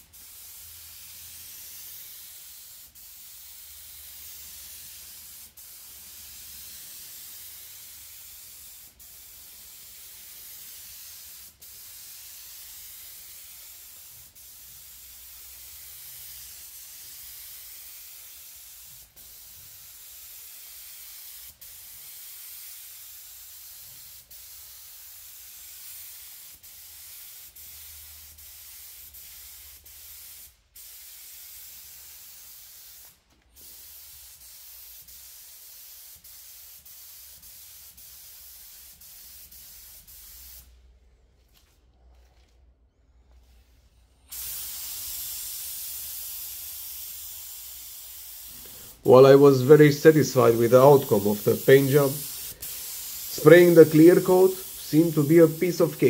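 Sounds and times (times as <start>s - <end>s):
paint spray gun hissing: 0.0s - 40.7s, 44.3s - 56.0s.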